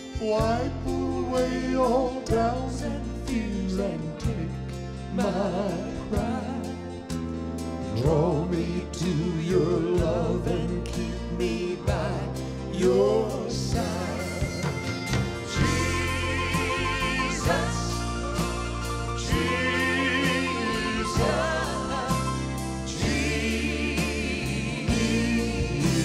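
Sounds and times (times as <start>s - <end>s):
man singing with vibrato: 0.0s - 7.0s, 7.9s - 14.8s, 15.4s - 26.0s
piano and band accompaniment: 0.0s - 26.0s.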